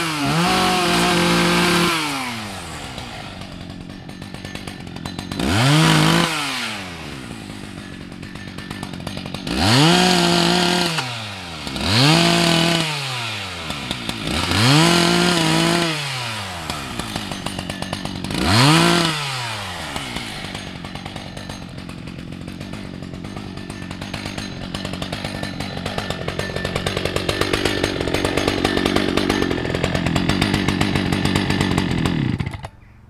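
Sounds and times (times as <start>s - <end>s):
chainsaw revving and idling: 0.0s - 32.9s.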